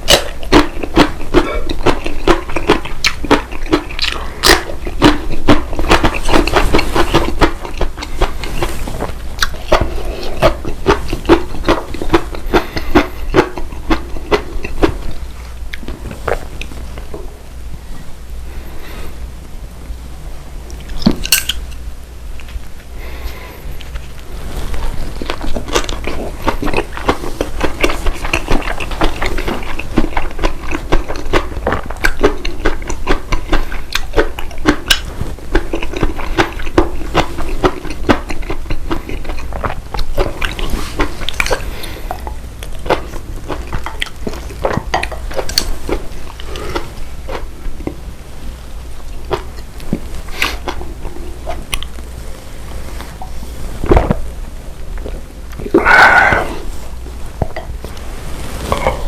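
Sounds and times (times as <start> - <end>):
person chewing food: 0.0 - 17.3, 20.6 - 48.1, 48.9 - 54.3, 54.9 - 59.0.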